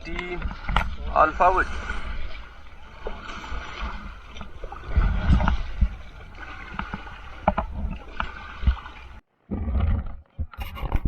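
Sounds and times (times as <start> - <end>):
low rumble: 0.0 - 9.2
paddle strokes splashing: 0.0 - 9.2.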